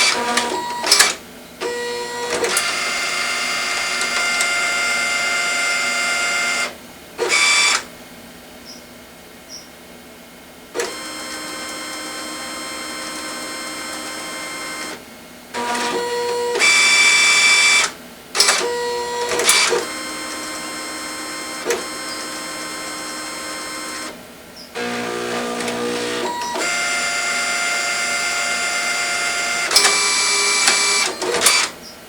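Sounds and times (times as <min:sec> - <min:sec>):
inkjet printer motors whining: 0:00.0 - 0:07.9, 0:10.8 - 0:15.0, 0:15.6 - 0:32.0.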